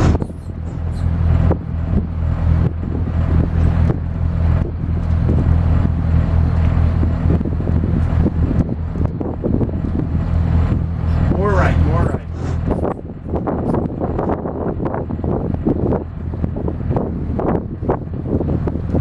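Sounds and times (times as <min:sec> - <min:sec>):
boat diesel engines droning: 0:00.0 - 0:19.0
wind buffeting microphone: 0:00.0 - 0:19.0.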